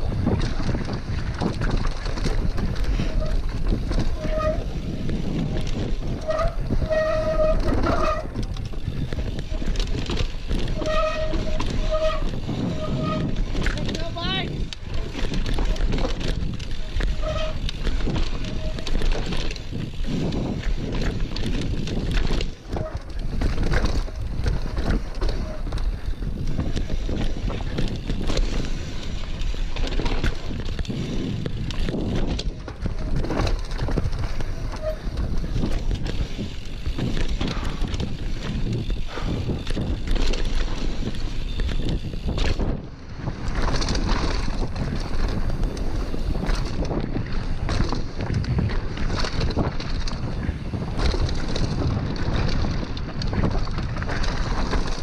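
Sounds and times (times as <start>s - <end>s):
bike rattling over bumps: 0.0s - 55.0s
tyres rolling over dirt: 0.0s - 55.0s
wind noise on microphone: 0.0s - 55.0s.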